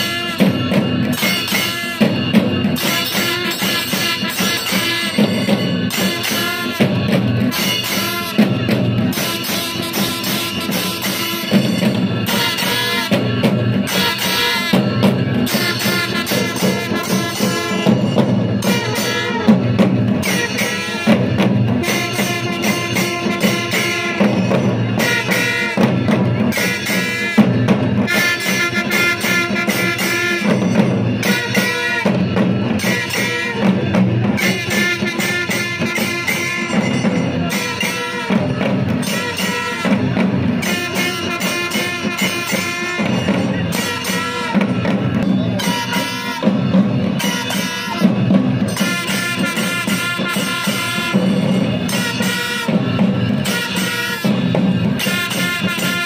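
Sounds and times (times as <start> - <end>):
brass horns blowing held notes: 0.0 - 45.0, 45.6 - 56.0
barrel drums beating: 0.0 - 56.0.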